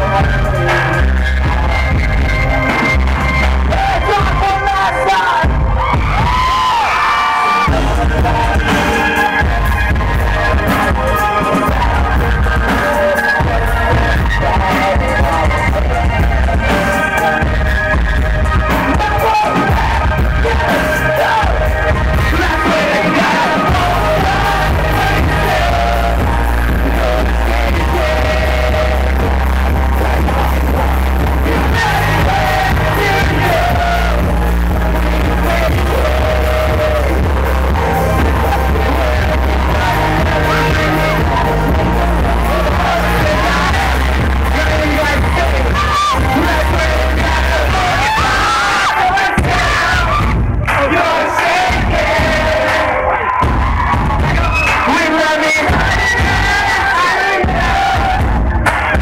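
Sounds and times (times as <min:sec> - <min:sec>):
electronic rock band playing: 0:00.0 - 0:59.0
heavy bass: 0:00.0 - 0:59.0
sung and shouted vocals: 0:00.0 - 0:59.0.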